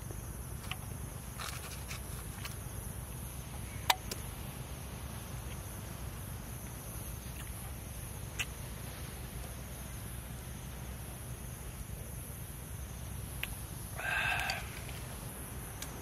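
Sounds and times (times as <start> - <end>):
night insects chirring: 0.0 - 16.0.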